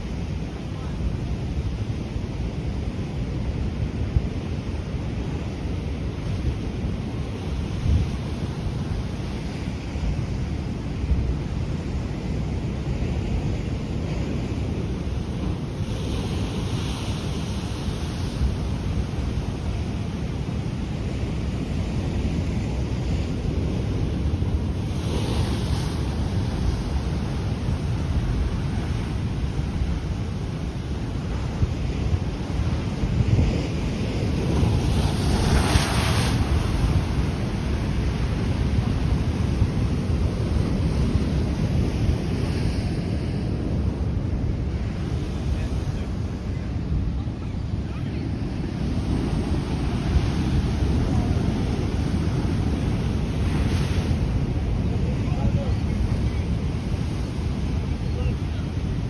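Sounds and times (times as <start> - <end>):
surf washing over rocks: 0.0 - 59.0
wind buffeting microphone: 3.7 - 59.0.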